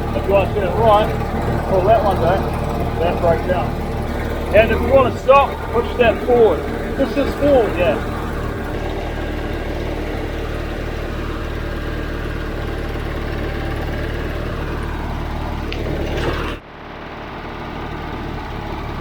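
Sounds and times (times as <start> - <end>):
diesel bulldozer engine idling: 0.0 - 19.0.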